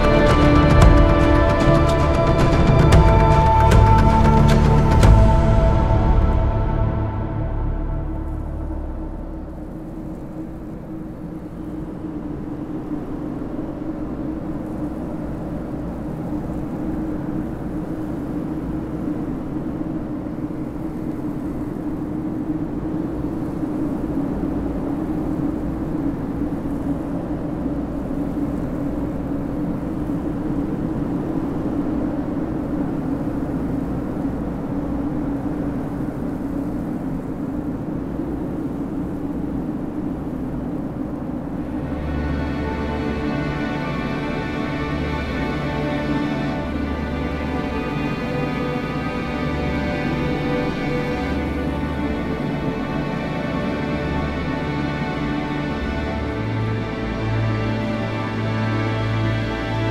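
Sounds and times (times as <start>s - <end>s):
low rumbling ambient drone: 0.0s - 59.9s.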